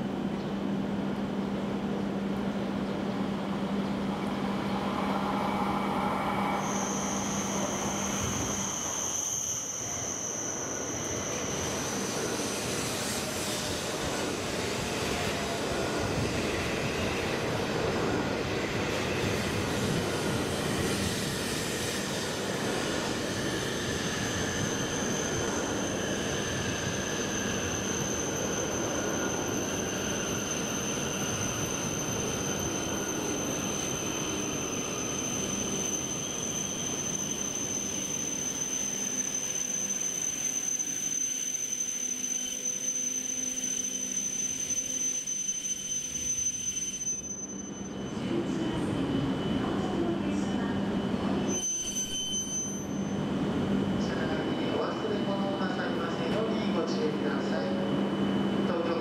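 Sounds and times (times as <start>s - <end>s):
train rolling past: 0.0s - 59.0s.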